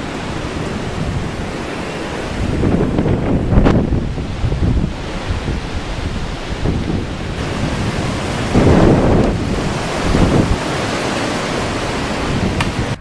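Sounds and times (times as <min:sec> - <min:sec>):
strong wind gusting through trees: 0:00.0 - 0:13.0
wind buffeting microphone: 0:00.0 - 0:13.0.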